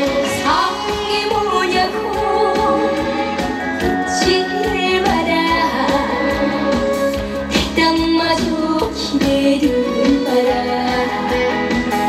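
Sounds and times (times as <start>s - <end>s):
amplified music with steady beat: 0.0s - 12.0s
woman singing into a microphone: 0.0s - 12.0s.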